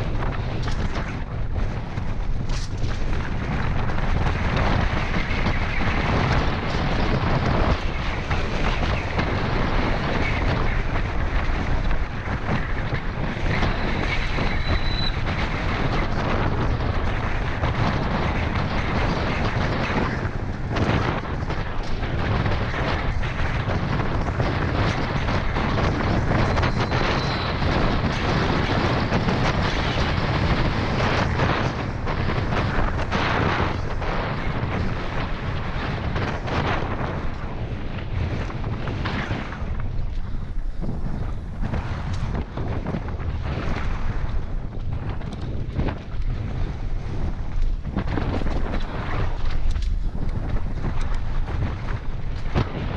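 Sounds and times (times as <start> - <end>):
bike rattling on dirt trail: 0.0 - 52.9
wind buffeting microphone: 0.0 - 52.9.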